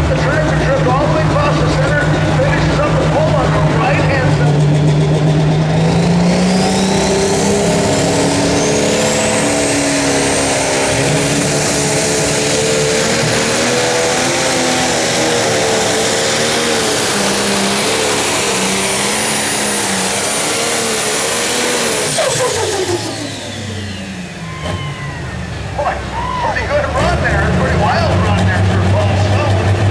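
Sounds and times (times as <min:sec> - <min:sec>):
diesel tractor engine at full power: 0:00.0 - 0:29.9.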